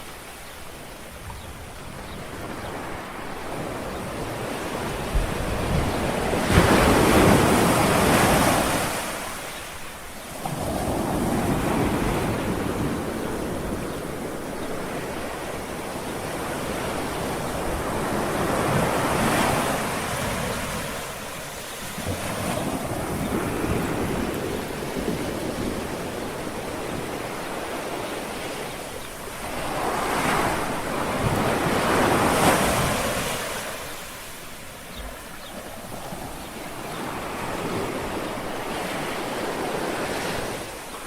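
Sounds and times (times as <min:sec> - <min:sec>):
small waves lapping on shore: 0:00.0 - 0:41.0.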